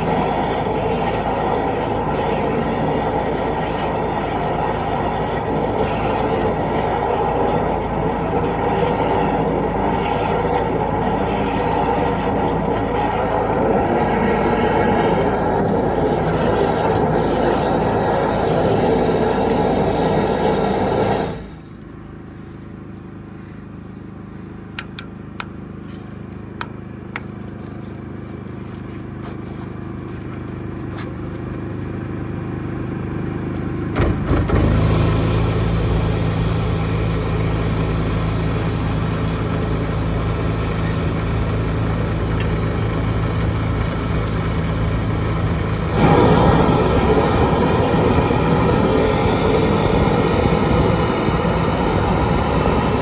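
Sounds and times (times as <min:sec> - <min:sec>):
drain-cleaning washer engine humming: 0:00.0 - 0:53.0.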